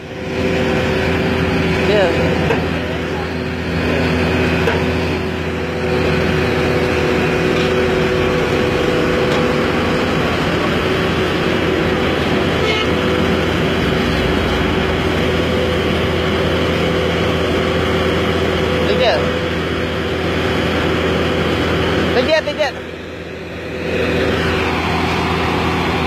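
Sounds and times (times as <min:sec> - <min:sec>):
diesel engine running under load: 0:00.0 - 0:26.0
steady whining tone: 0:00.0 - 0:26.0.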